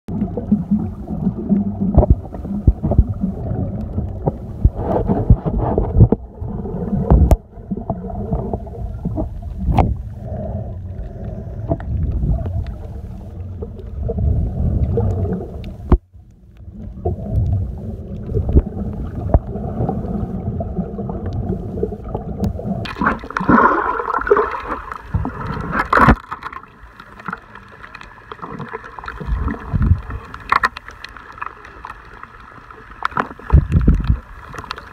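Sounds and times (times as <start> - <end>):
muffled underwater gurgling: 0.1 - 30.7, 31.8 - 34.9.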